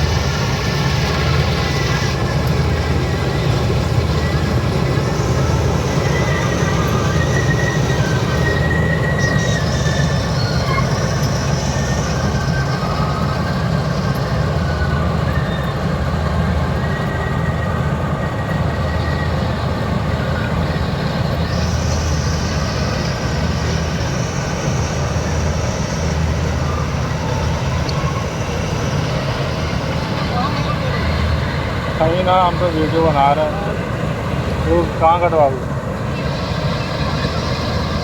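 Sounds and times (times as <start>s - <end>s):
combine harvester engine rumbling: 0.0s - 38.0s.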